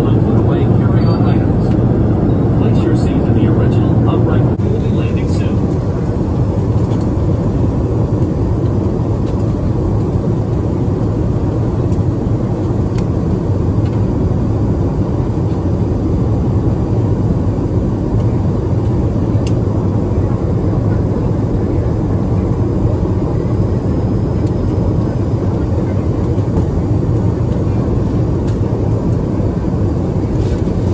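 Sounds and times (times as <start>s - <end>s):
jet airliner cabin drone: 0.0s - 30.9s.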